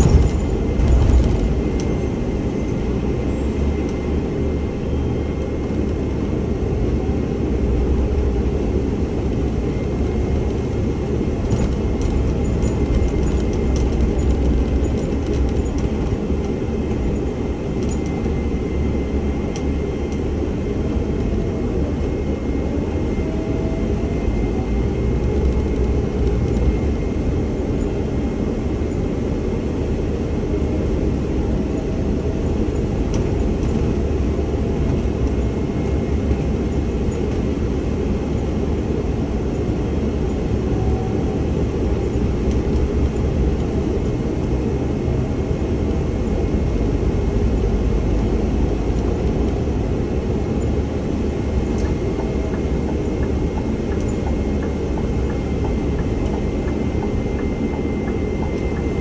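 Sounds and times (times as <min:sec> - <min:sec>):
bus engine hum: 0:00.0 - 0:59.0.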